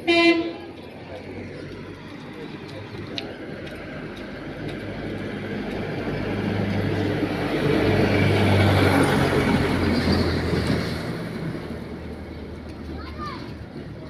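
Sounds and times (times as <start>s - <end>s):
vehicle engine passing by: 0.5s - 14.0s.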